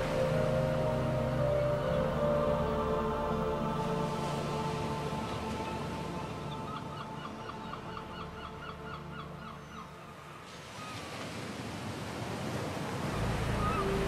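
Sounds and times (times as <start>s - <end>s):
surf-like noise: 0.0s - 14.0s.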